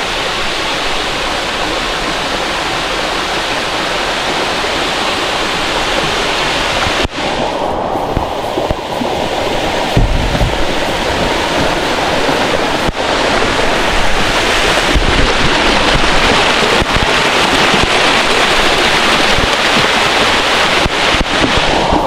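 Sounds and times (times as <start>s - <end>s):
waterfall splashing into pool: 0.0s - 22.0s.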